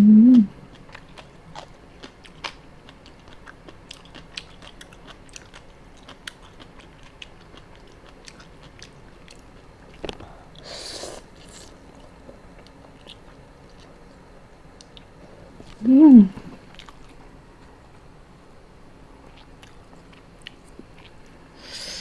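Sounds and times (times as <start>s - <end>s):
close-up chewing: 0.6s - 15.8s, 16.4s - 17.3s, 19.2s - 21.4s.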